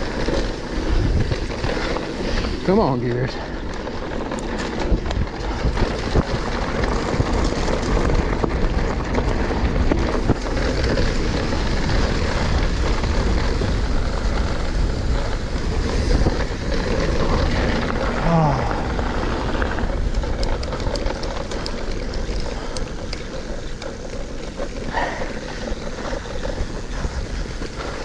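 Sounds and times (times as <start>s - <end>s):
bike clicks and rattles: 0.0s - 28.0s
bike tyres rumbling on dirt: 0.0s - 28.0s
wind rushing over microphone: 0.0s - 28.0s.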